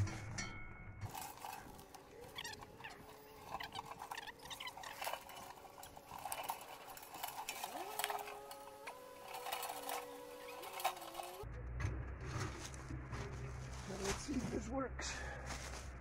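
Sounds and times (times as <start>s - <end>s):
dry leaves rustling: 1.1s - 11.4s, 12.2s - 16.0s.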